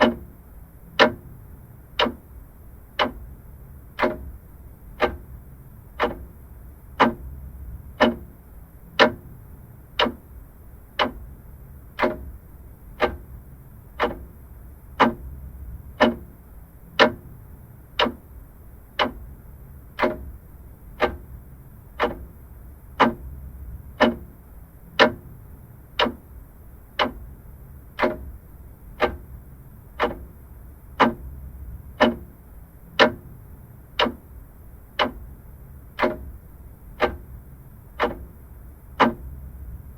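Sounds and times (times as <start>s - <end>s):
faint low hum: 0.0s - 39.9s
mechanical clock ticking: 0.0s - 39.9s.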